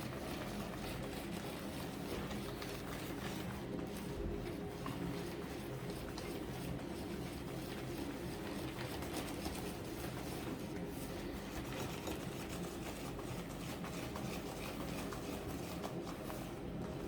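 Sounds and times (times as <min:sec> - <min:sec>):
utensil mixing batter in bowl: 0:00.0 - 0:17.0.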